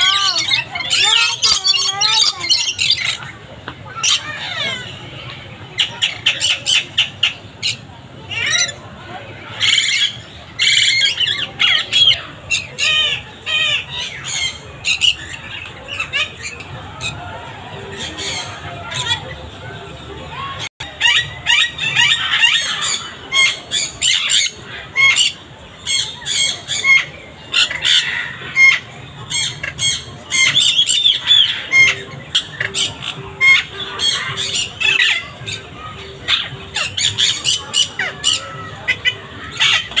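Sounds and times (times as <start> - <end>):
parrots squawking and screeching: 0.0 - 40.0.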